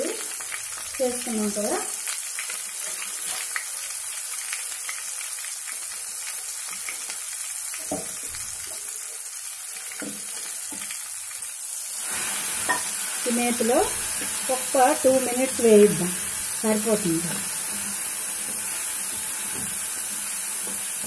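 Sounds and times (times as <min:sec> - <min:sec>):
paste sizzling in hot fat: 0:00.0 - 0:21.0.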